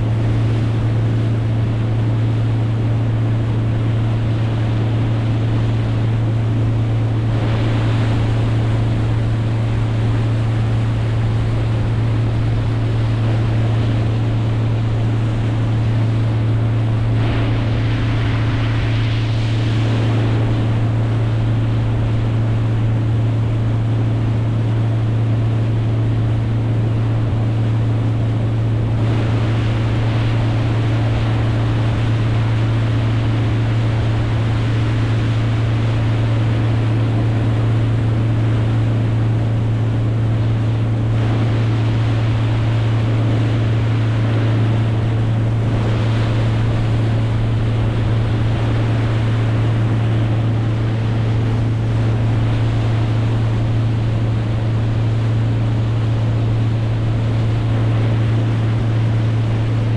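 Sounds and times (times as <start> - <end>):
engine humming: 0.0 - 59.9
water noise: 0.0 - 59.9
wind: 0.0 - 59.9.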